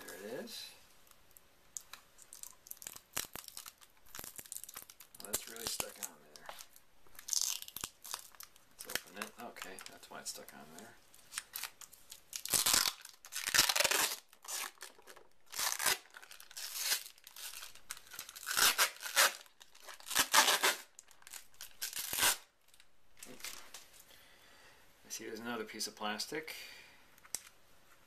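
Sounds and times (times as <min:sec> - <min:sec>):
plastic wrapping crinkling and tearing: 0:01.0 - 0:23.9.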